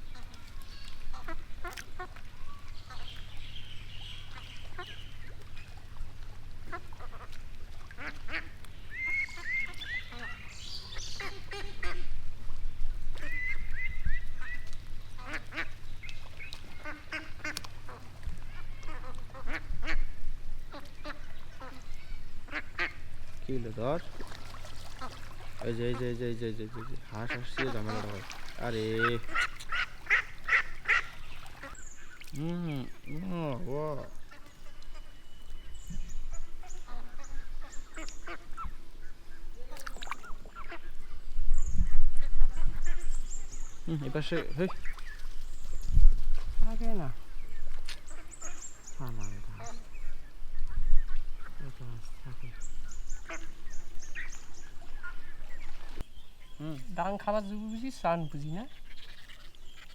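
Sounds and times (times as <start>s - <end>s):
ducks quacking: 0.0s - 12.2s, 13.1s - 35.2s, 35.8s - 41.1s, 42.2s - 45.3s, 46.6s - 59.9s.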